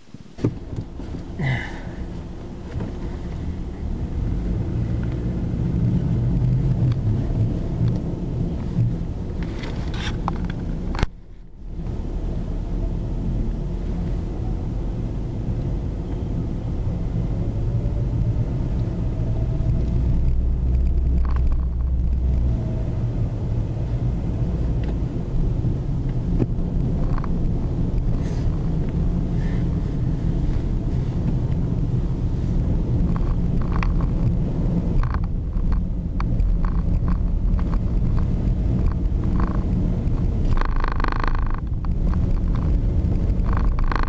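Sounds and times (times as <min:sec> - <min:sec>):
car engine and tyres rumbling: 0:00.0 - 0:44.0.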